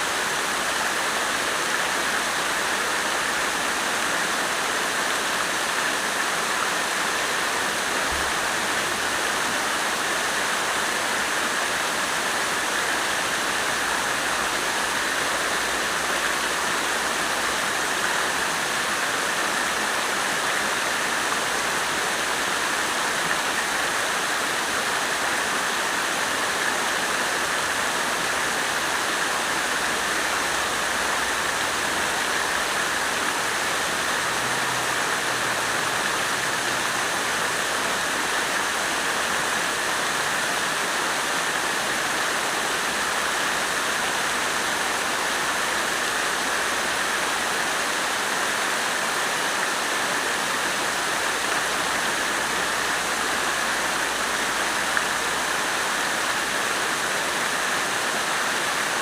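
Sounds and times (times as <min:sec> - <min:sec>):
water fountain splashing: 0:00.0 - 0:59.0.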